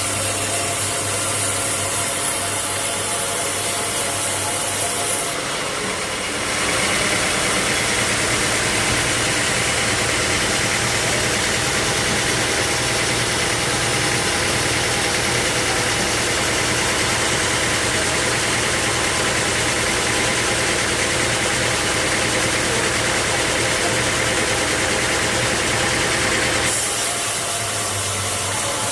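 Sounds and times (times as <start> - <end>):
sawmill machinery running: 0.0 - 28.9.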